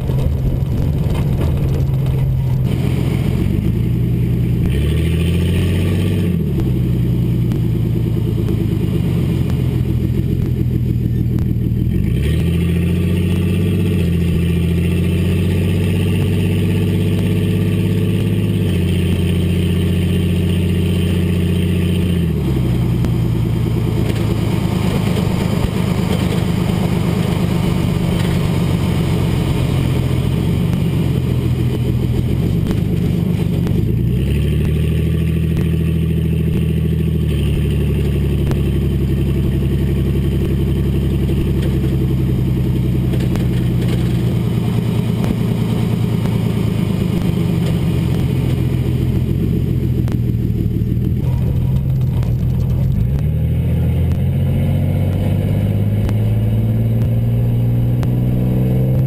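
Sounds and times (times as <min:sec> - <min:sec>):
road noise: 0:00.0 - 0:59.0
truck exhaust note: 0:00.0 - 0:59.0.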